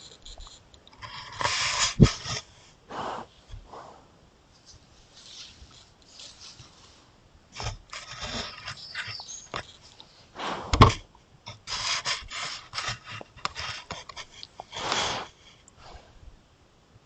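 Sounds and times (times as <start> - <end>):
scratchy scraping on microphone: 0.0 - 3.9, 4.6 - 16.1.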